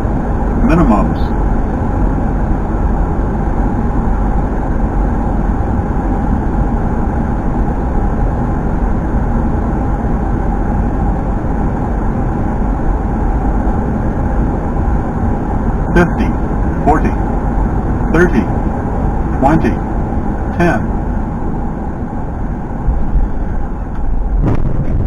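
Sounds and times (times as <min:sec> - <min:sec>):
jet engines running: 0:00.0 - 0:24.4.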